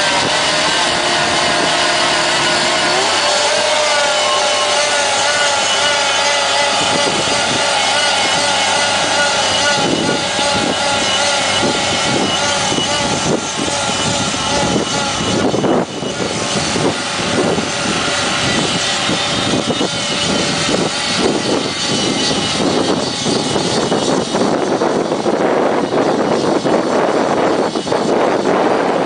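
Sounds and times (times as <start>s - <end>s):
mower engine running: 0.0s - 29.0s.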